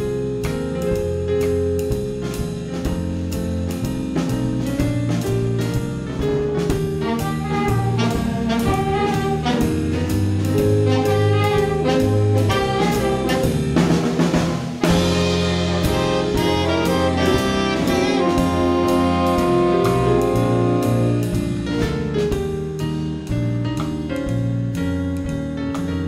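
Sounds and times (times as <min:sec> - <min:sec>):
jazz saxophone section: 0:00.0 - 0:22.5
drum kit cymbal beat: 0:00.0 - 0:24.9
electric bass: 0:00.0 - 0:26.0.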